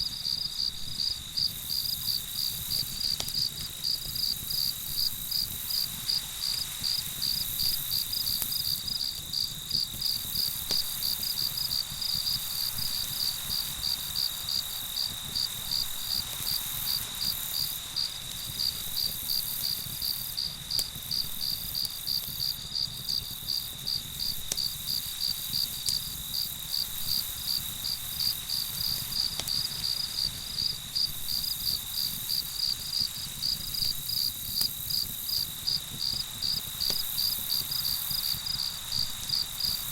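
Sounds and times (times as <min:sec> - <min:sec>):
continuous high insect trill: 0:00.0 - 0:39.9
crickets chirping: 0:00.0 - 0:39.9.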